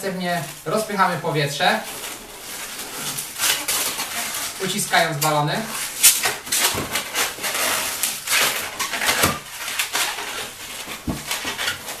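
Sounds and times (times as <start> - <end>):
balloons squeaking: 0.0 - 12.0.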